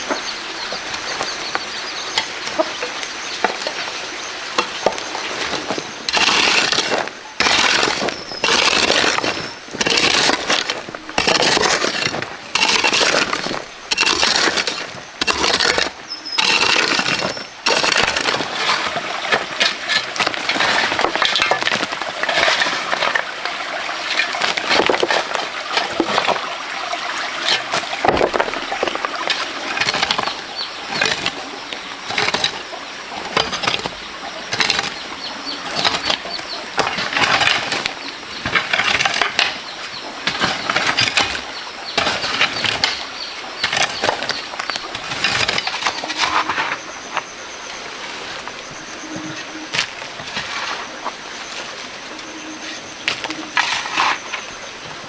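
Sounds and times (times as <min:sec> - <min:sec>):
hand tool digging sand and gravel: 0:00.0 - 0:55.0.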